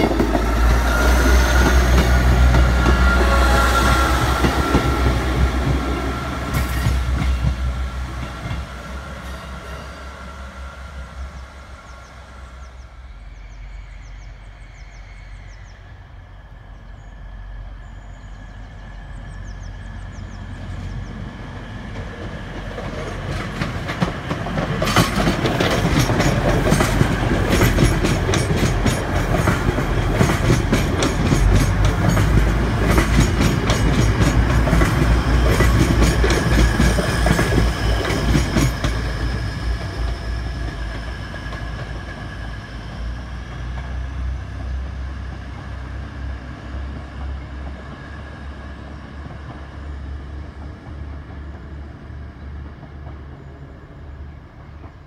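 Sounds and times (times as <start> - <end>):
train wheels clattering on track: 0.0 - 11.0, 19.1 - 55.0
train rumble: 0.0 - 55.0.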